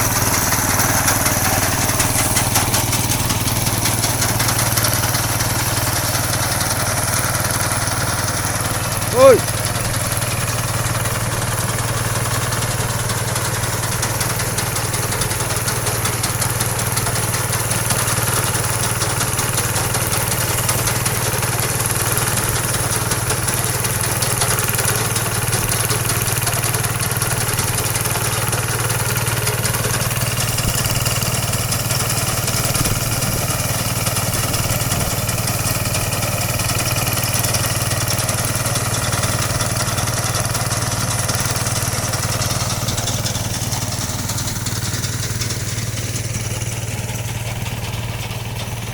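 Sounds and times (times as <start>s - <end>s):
combine harvester engine hum: 0.0s - 48.9s.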